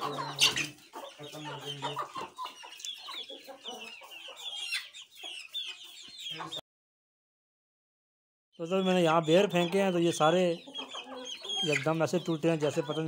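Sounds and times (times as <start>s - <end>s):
chickens clucking and squawking: 0.0s - 6.6s, 8.6s - 13.0s.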